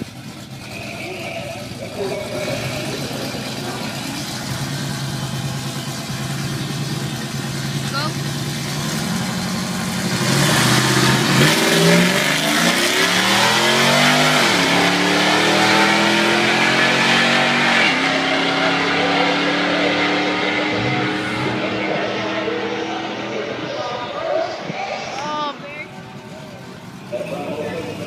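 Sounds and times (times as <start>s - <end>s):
vehicles accelerating hard: 0.0s - 28.0s.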